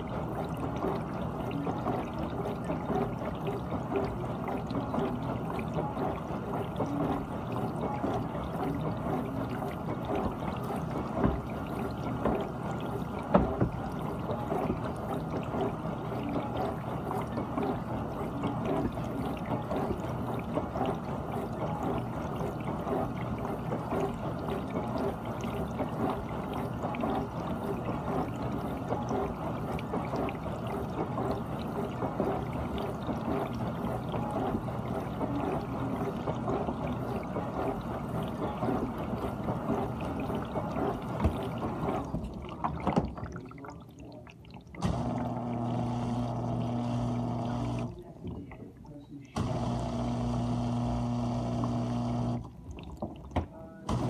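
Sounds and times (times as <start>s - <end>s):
dishwasher water spraying: 0.0s - 44.2s
pump motor hum: 0.0s - 54.0s.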